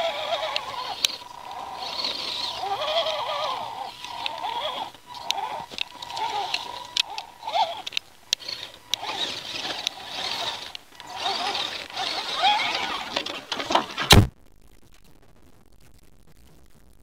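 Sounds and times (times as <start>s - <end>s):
electric motor and gears whining: 0.0s - 14.2s.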